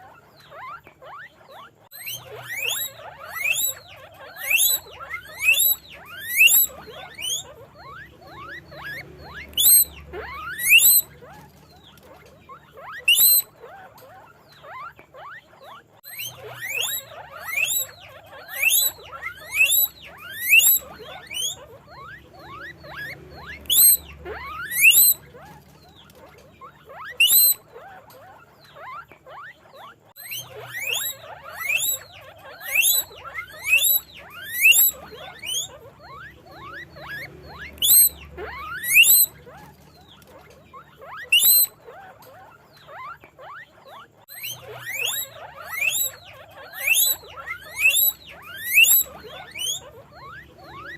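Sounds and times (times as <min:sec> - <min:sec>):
guinea pigs squealing: 0:00.0 - 0:50.9.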